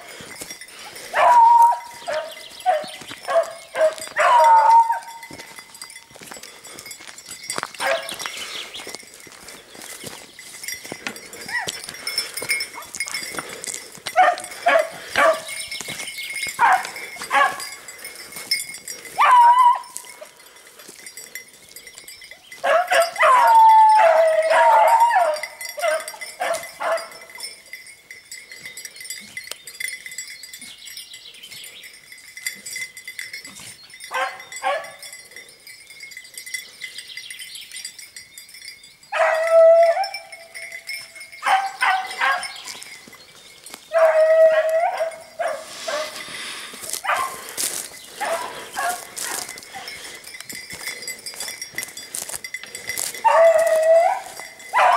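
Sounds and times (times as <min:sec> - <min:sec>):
hounds baying and yelping: 0:00.0 - 0:38.2, 0:39.0 - 0:54.9.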